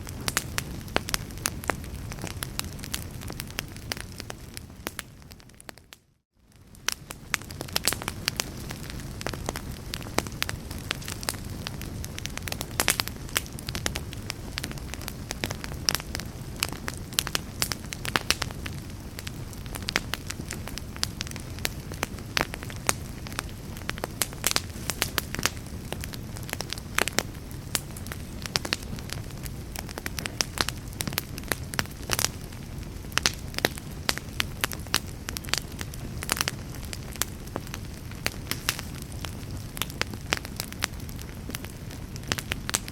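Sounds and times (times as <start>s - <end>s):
fire crackling and popping: 0.0s - 42.9s
low rumble of flame: 0.0s - 42.9s.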